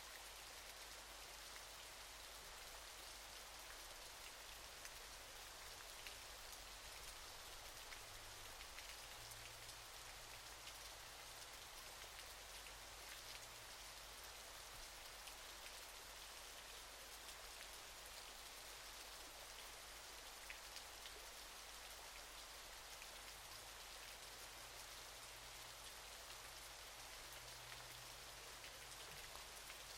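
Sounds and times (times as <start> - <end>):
faint waterfall hiss: 0.0 - 29.9.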